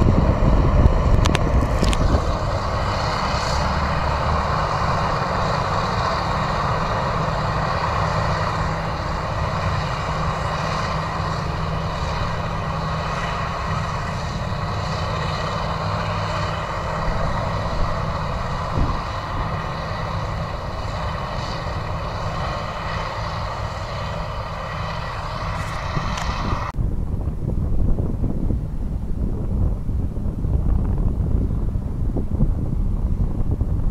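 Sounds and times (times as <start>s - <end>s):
high whine: 0.0s - 33.9s
tractor engine noise: 0.0s - 33.9s.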